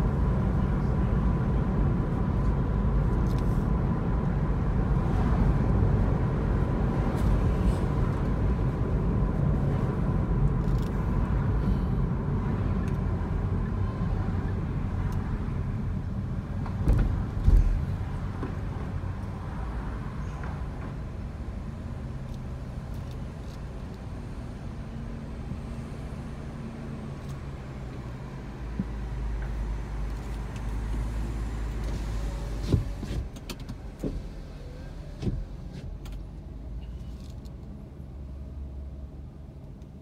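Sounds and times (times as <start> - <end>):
car engine hum: 0.0 - 40.0
truck rumble: 0.0 - 40.0.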